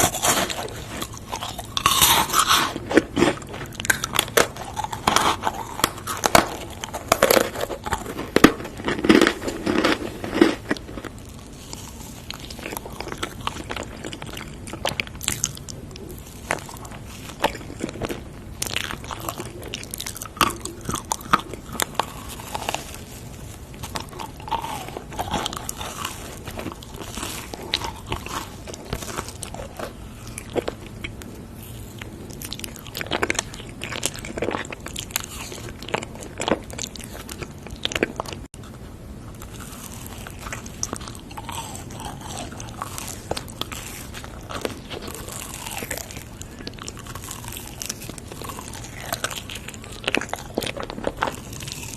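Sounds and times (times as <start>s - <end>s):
crunchy chewing: 0.0s - 51.9s.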